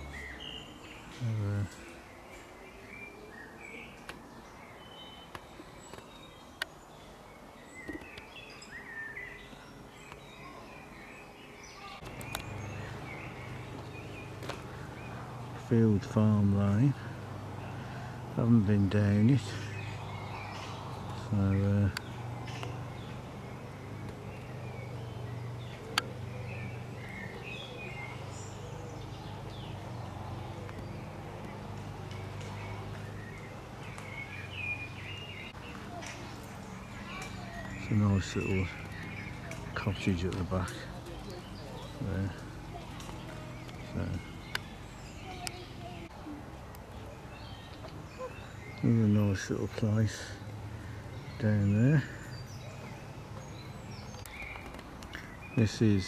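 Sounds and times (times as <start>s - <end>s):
small birds singing and chirping: 0.0s - 56.0s.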